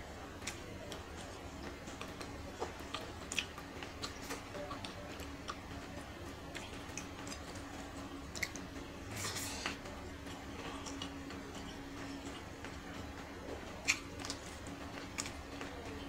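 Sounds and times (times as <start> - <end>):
faint steady hum: 0.0 - 16.0
chewing with wet mouth clicks: 0.4 - 5.8, 6.5 - 12.8, 13.7 - 15.7.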